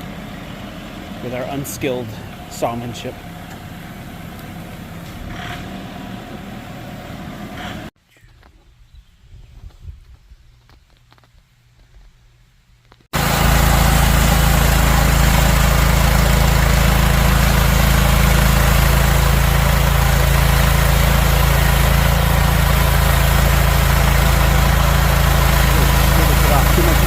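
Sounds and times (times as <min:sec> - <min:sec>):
sawmill engine running: 0:00.0 - 0:07.9, 0:13.2 - 0:27.0.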